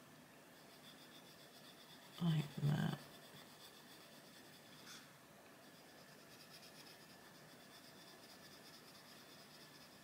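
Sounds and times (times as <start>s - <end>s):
pencil scratching on paper: 0.6s - 5.0s, 5.6s - 10.0s.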